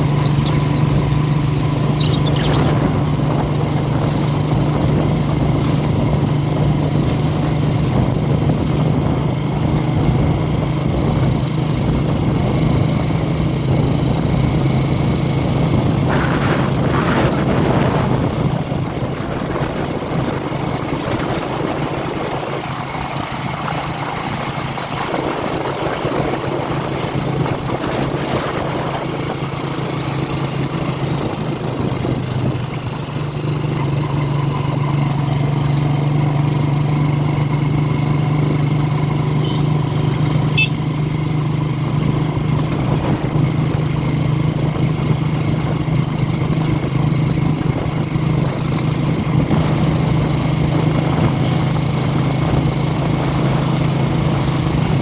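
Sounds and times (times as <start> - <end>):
road and wind hiss: 0.0 - 55.0
vehicle engine running: 0.0 - 55.0.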